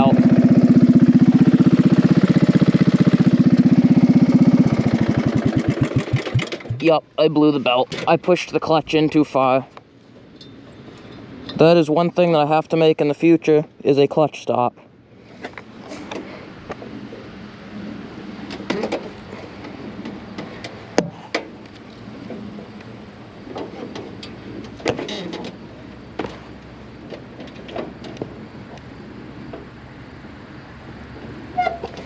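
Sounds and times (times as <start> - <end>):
riding mower engine idling: 0.0 - 13.6, 14.9 - 32.0.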